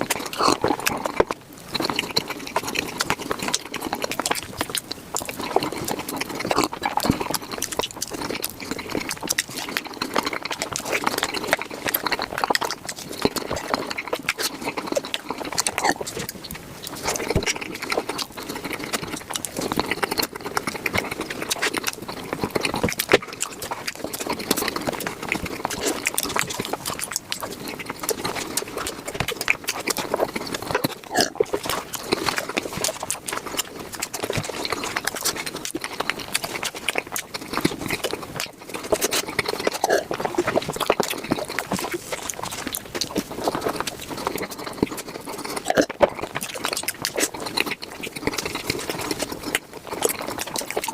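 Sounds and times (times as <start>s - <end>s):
sped-up chewing and mouth smacking: 0.0s - 50.9s.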